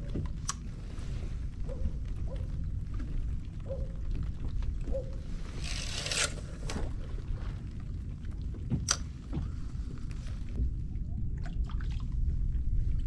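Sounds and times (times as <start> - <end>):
wind and water rumble: 0.0 - 5.7, 6.4 - 13.0.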